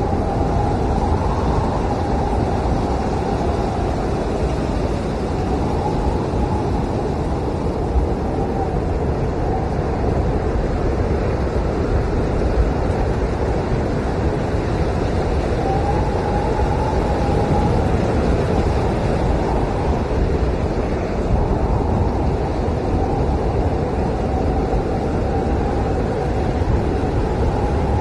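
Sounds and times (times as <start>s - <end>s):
blizzard wind blowing hard: 0.0s - 28.0s
wind whistling: 0.0s - 28.0s.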